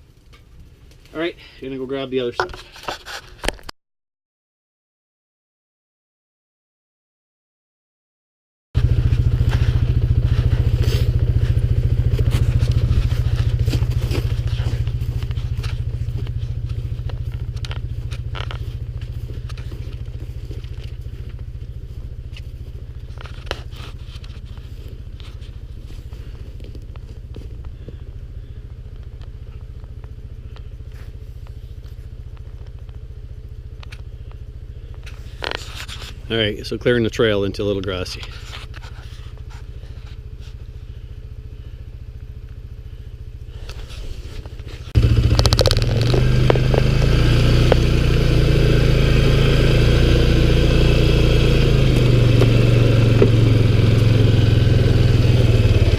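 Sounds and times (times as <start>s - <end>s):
quad engine droning: 8.8s - 55.9s.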